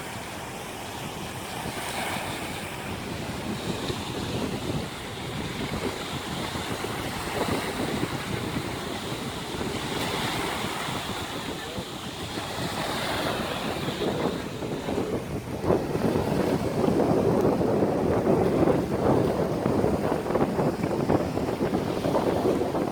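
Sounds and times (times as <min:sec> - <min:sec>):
small waves washing ashore: 0:00.0 - 0:22.9
wind buffeting microphone: 0:00.0 - 0:22.9.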